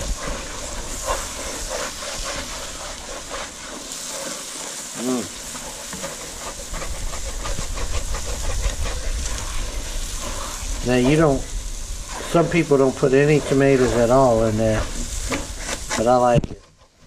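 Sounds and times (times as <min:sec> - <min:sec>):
vegetables sizzling in a pot: 0:00.0 - 0:17.0
wooden spoon scraping a pot: 0:00.0 - 0:17.0.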